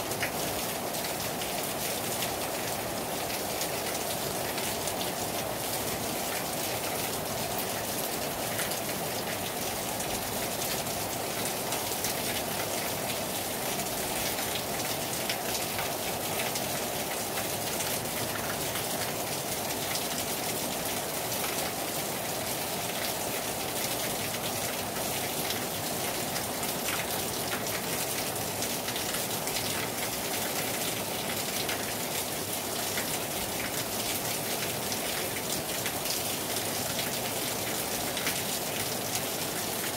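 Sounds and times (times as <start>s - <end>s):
heavy rain on a terrace: 0.0s - 39.9s.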